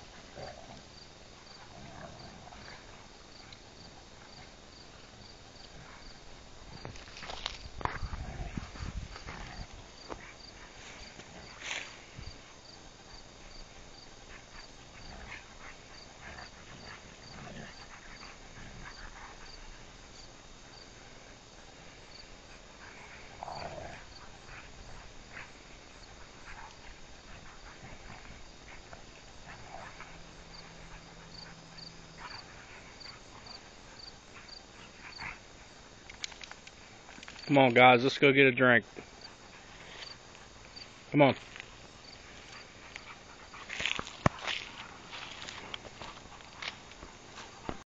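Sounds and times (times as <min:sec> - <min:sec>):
dogs rustling in grass: 0:00.0 - 0:38.2, 0:38.9 - 0:47.8
cricket chirping: 0:00.0 - 0:47.0.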